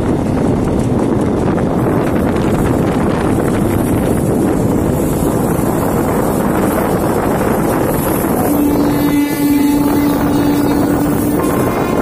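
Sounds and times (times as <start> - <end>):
moving train rumble: 0.0 - 12.0
wind buffeting microphone: 0.0 - 12.0.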